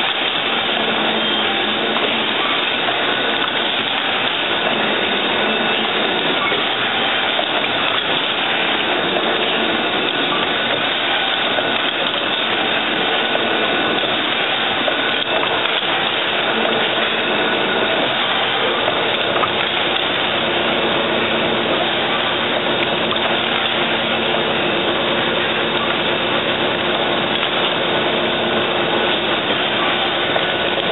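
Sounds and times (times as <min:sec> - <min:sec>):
machine running: 0:00.0 - 0:30.9.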